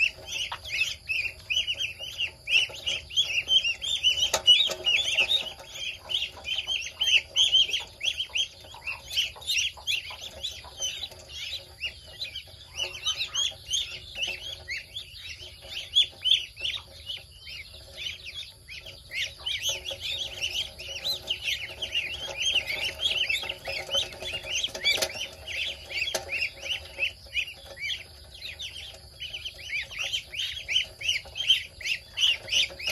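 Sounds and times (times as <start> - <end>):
ducklings peeping: 0.0 - 32.9.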